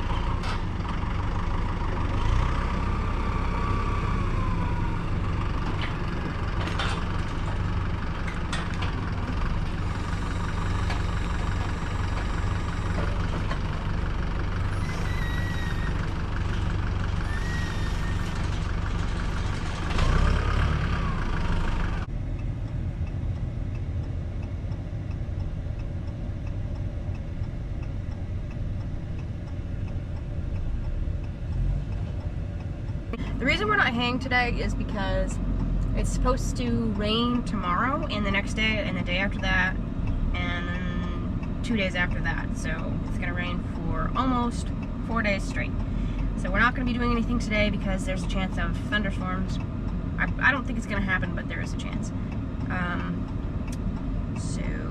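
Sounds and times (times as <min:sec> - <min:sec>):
vehicle engine droning: 0:00.0 - 0:54.9.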